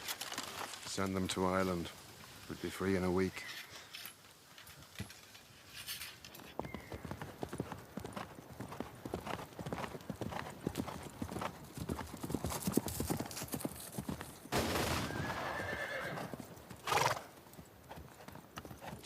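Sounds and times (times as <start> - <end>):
horse hooves clopping: 3.4 - 19.0.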